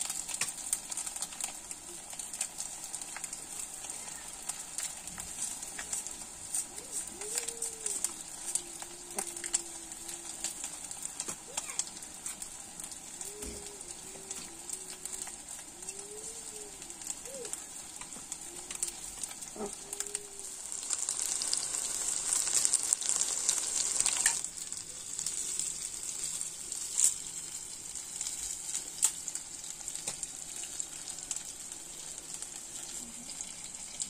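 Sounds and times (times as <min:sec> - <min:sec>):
food deep-frying in hot oil: 0:00.0 - 0:34.0.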